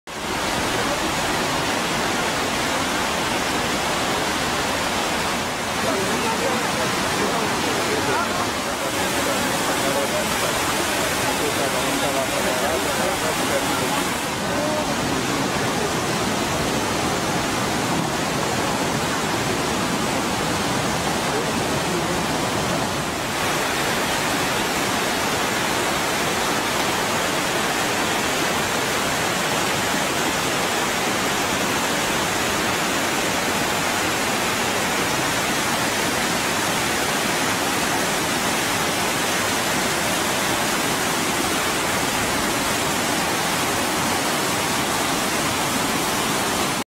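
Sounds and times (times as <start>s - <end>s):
floodwater rushing: 0.1s - 46.9s.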